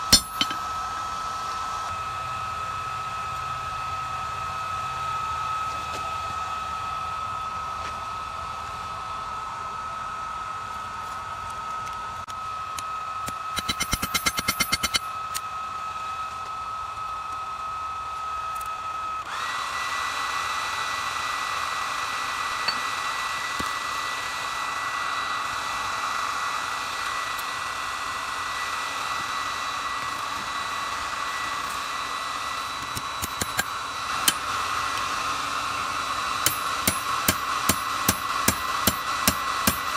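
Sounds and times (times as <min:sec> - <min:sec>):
electric blower whining: 0:00.0 - 0:39.9.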